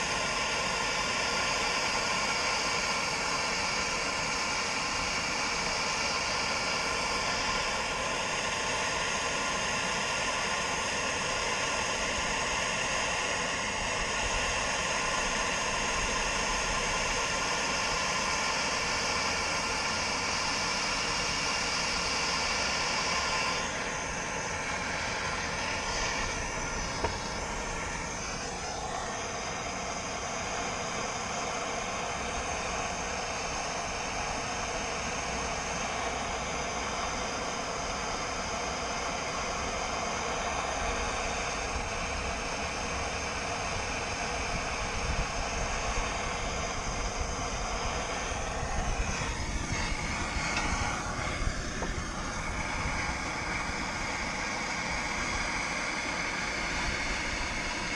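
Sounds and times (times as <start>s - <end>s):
gas torch hissing: 0.0s - 57.9s.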